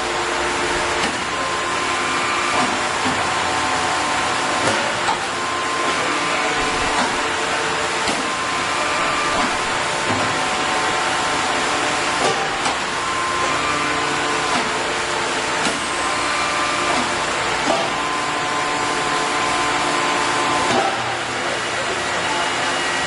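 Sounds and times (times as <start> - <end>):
metal lathe running: 0.0 - 23.0.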